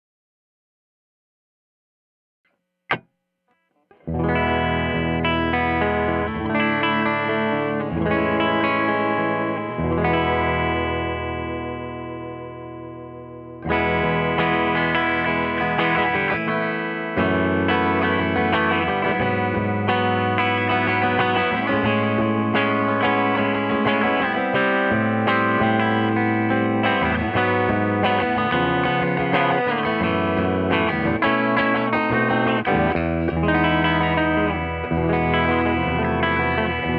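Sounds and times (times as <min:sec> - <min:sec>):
electric guitar chords: 0:03.9 - 0:36.9.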